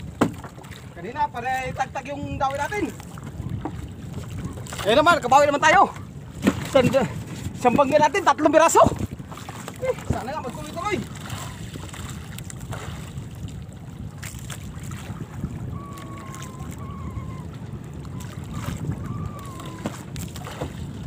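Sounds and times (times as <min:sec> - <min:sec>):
boat engine running: 0:00.0 - 0:21.0
sea water around hull: 0:00.0 - 0:21.0
wind on microphone: 0:00.0 - 0:21.0.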